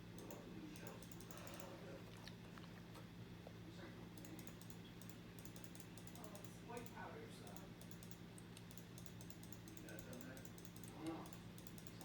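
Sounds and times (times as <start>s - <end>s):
ceiling fan motor hum: 0.0s - 12.0s
light clicks and ticks: 0.2s - 2.3s, 4.2s - 12.0s.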